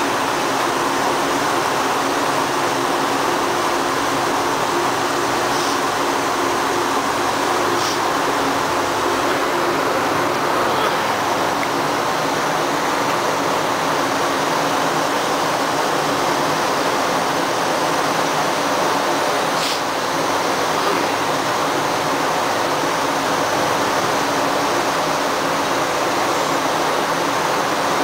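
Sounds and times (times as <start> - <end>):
low machinery hum: 0.0 - 28.0
steady rushing noise: 0.0 - 28.0.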